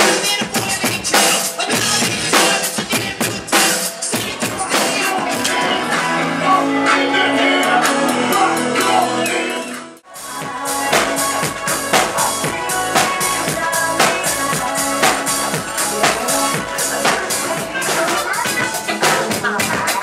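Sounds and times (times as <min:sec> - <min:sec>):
live drum kit: 0:00.0 - 0:20.0
loud club dance music: 0:00.0 - 0:20.0.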